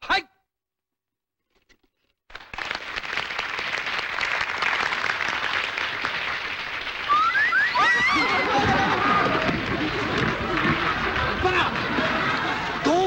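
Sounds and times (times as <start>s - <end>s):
audience applause: 2.3s - 13.0s.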